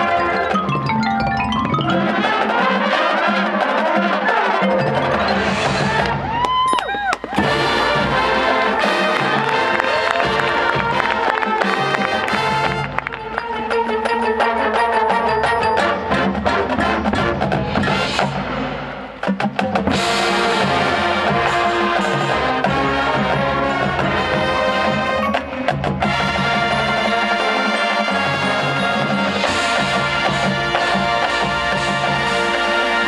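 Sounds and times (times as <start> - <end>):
wind chords over drums: 0.0 - 6.6, 7.2 - 13.0, 15.5 - 33.0
marching band percussion hits: 0.5 - 13.2, 15.8 - 33.0.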